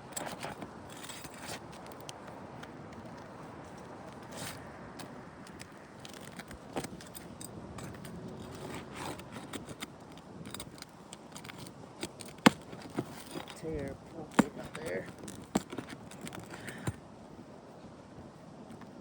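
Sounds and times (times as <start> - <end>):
shingles scraping: 0.0 - 17.0.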